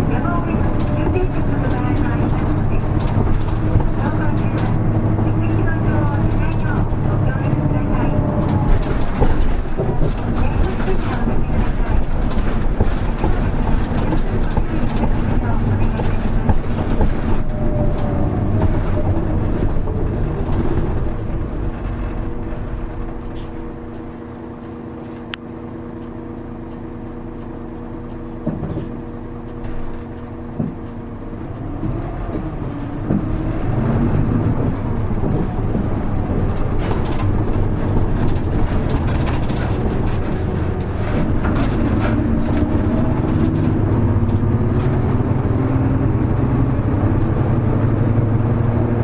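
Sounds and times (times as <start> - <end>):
bus engine: 0.0 - 49.0.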